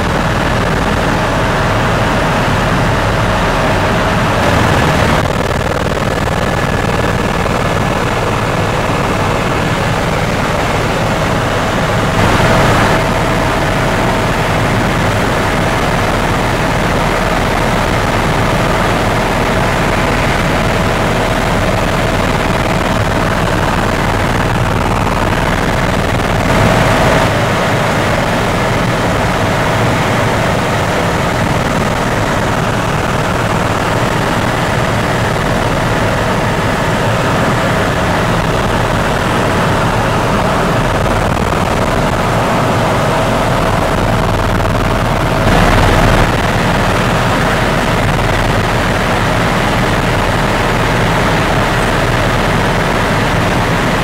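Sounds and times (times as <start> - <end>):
helicopter engine and rotor noise: 0.0 - 54.0
steady engine whine: 0.0 - 54.0.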